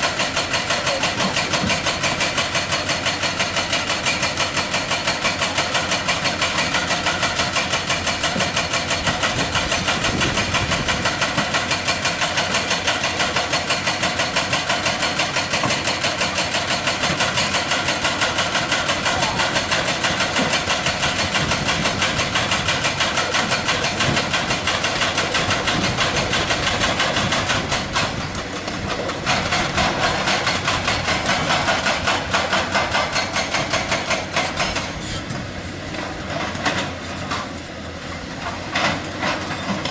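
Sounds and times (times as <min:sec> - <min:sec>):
hydraulic breaker hammering rock: 0:00.0 - 0:37.6.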